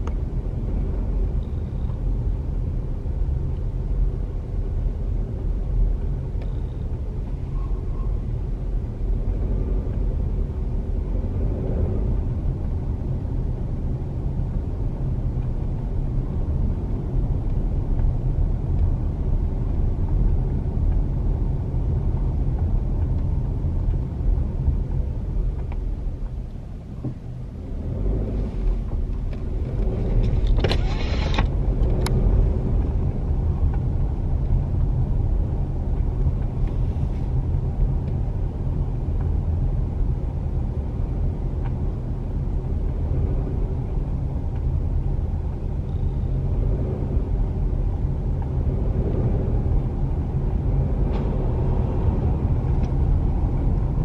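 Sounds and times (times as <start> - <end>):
car engine rumble: 0.0 - 54.0
car road noise: 0.0 - 54.0.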